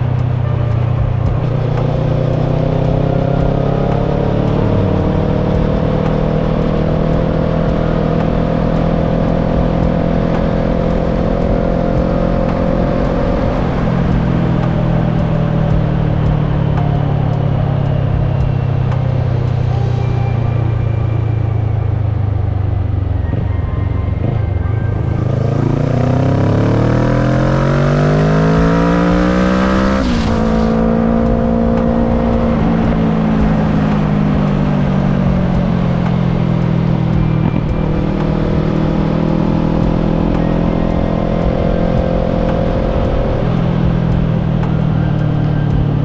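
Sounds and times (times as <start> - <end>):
motorcycle engine accelerating: 0.0 - 46.0
wind and road noise: 0.0 - 46.0.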